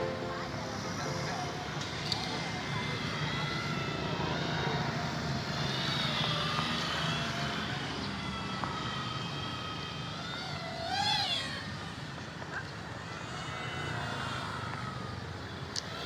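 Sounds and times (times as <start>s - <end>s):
model airplane motor whine: 0.0s - 16.0s.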